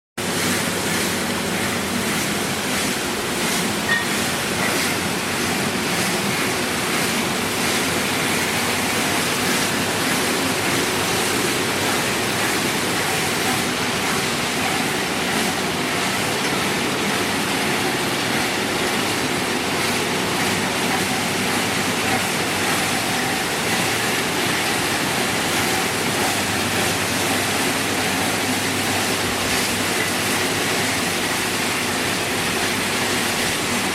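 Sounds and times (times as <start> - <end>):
spraying water: 0.2 - 33.9
washing machine running: 0.2 - 33.9.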